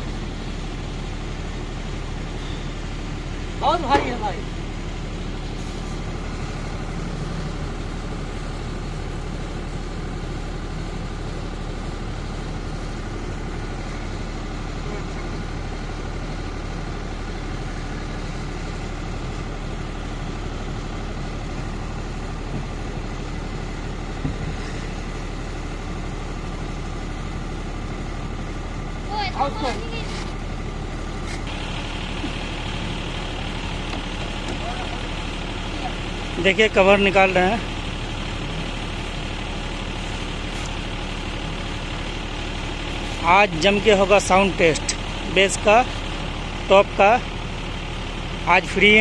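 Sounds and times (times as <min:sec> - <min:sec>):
generator engine running: 0:00.0 - 0:49.0.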